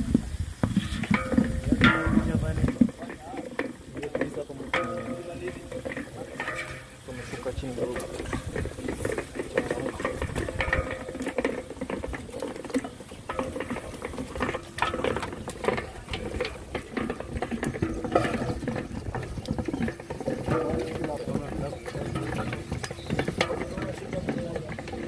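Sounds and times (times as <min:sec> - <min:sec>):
sauce bubbling: 0:00.0 - 0:25.0
wooden paddle scraping pot: 0:00.0 - 0:25.0
knocks and clicks: 0:00.6 - 0:25.0.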